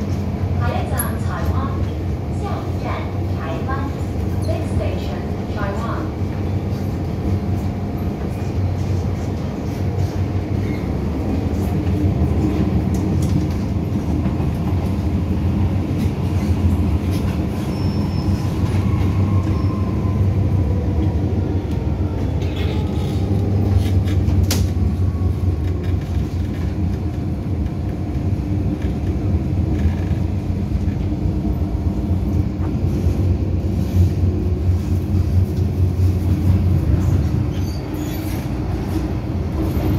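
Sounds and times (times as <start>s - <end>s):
metro car wheels rumbling: 0.0s - 39.9s.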